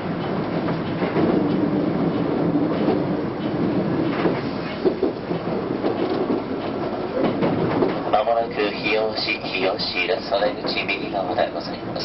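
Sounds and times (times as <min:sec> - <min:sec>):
wheel clacks over rail joints: 0:00.0 - 0:11.7.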